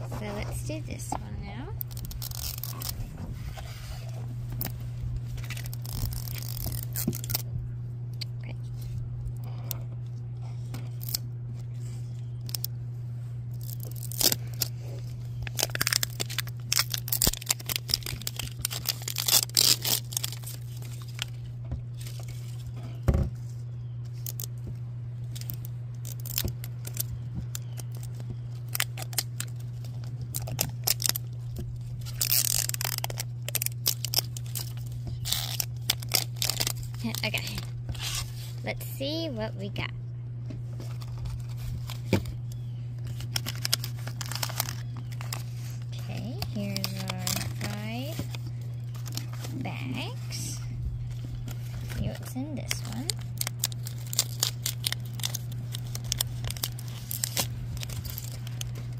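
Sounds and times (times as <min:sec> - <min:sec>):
steady low hum: 0:00.0 - 0:58.9
plastic wrapper tearing: 0:01.6 - 0:03.0, 0:04.5 - 0:07.5, 0:10.8 - 0:12.7, 0:13.5 - 0:23.0, 0:24.2 - 0:24.6, 0:25.2 - 0:38.6, 0:40.9 - 0:58.9.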